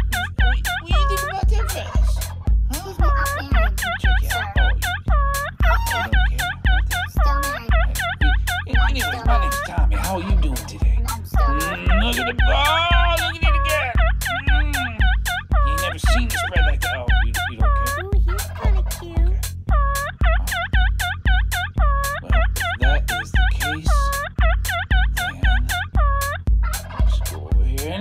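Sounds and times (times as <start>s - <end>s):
turkey gobbles chopped in time: 0.0s - 27.6s
steady kick drum: 0.0s - 28.0s.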